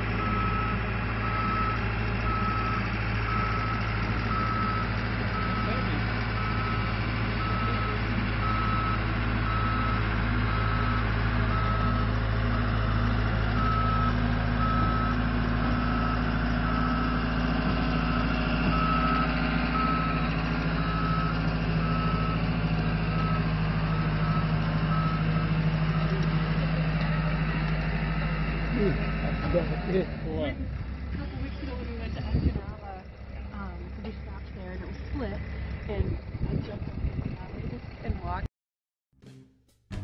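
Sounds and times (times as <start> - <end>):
track loader engine running: 0.0 - 38.5, 39.2 - 40.0.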